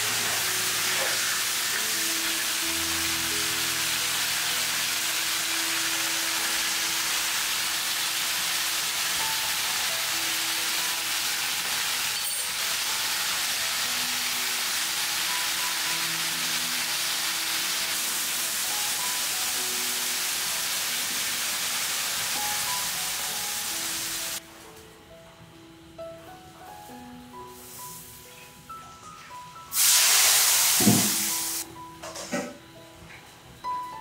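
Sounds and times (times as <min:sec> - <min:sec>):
food sizzling: 0:00.0 - 0:24.4, 0:26.8 - 0:28.4, 0:29.7 - 0:31.7
soft background music: 0:00.0 - 0:34.0.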